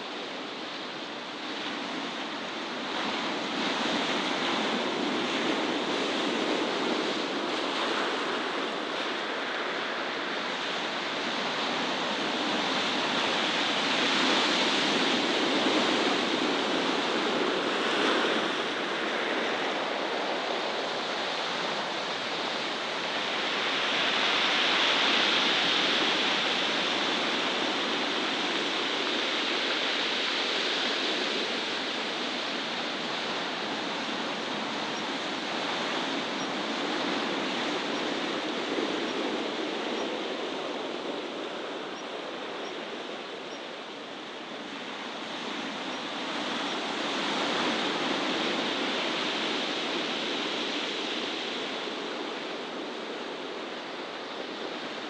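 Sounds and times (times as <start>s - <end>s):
steady rushing outdoor noise: 0.0s - 55.0s.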